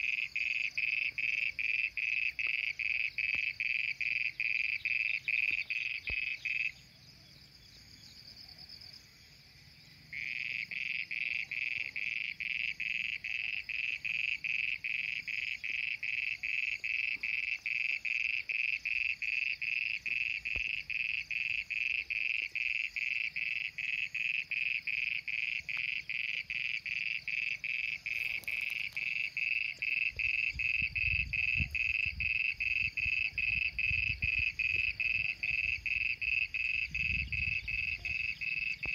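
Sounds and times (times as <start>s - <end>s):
frogs pulsing call: 0.0s - 38.9s.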